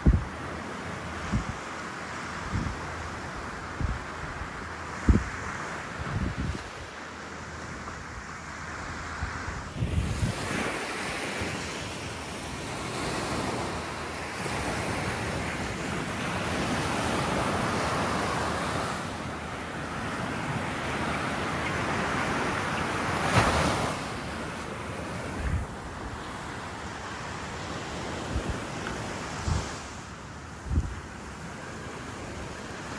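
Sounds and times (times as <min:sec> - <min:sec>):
ocean surf washing onto beach: 0:00.0 - 0:32.9
wind gusting on microphone: 0:00.0 - 0:32.9.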